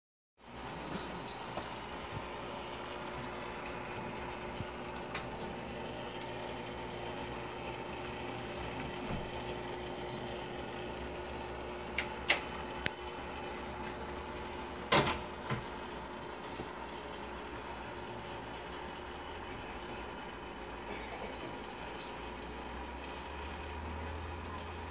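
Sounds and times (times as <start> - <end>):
aquarium pumps humming: 0.4 - 24.9.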